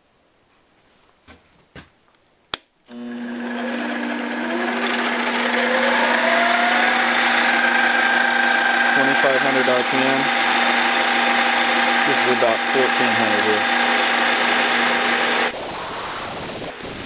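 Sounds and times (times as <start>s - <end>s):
lathe motor whine: 2.9s - 17.0s.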